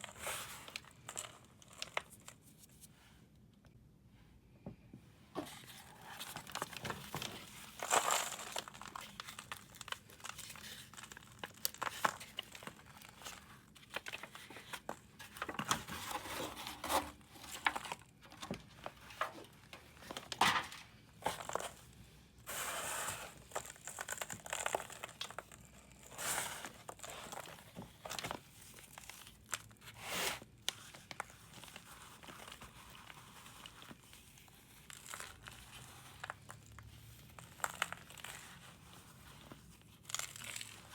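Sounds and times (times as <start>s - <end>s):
powder blocks crunching and scraping: 5.4s - 18.1s, 19.1s - 40.9s.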